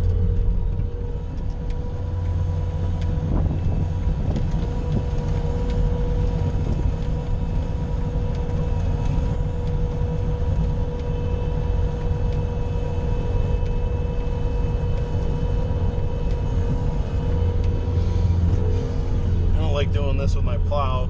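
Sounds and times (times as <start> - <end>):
skid steer engine rumble: 0.0 - 21.0
steady whine: 0.0 - 21.0.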